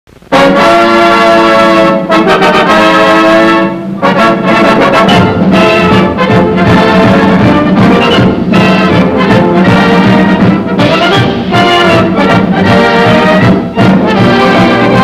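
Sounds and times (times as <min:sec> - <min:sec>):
orchestral brass chords: 0:00.1 - 0:15.0.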